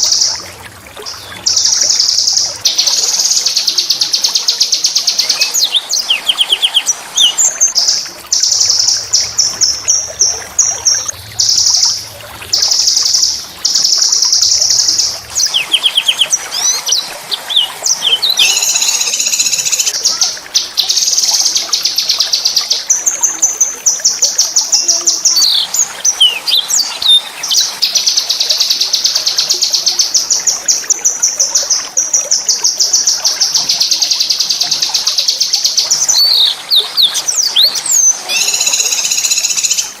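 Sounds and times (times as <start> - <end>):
songbird trilling song: 1.1 - 12.0, 12.6 - 30.9, 31.6 - 40.0.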